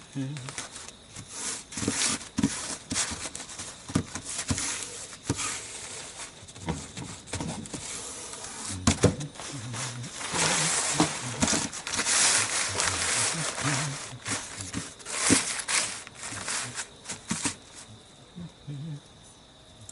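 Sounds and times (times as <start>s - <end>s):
rustling and crinkling: 0.3s - 18.0s.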